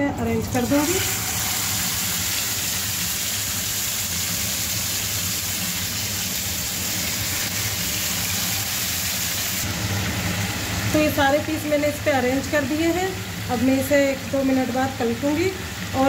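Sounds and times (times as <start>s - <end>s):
chicken sizzling in hot oil: 0.4s - 16.0s.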